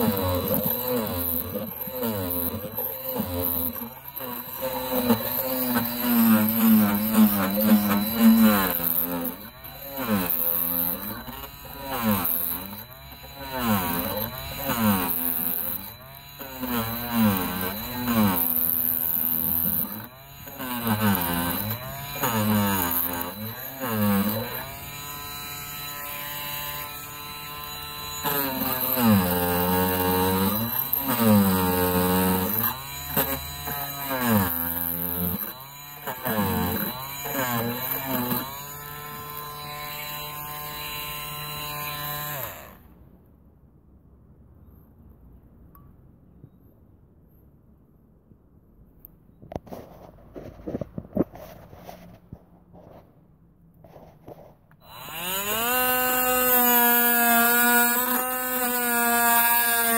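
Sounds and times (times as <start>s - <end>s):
oscillating tool scraping paint: 0.0s - 42.7s, 49.6s - 53.1s, 53.8s - 59.9s.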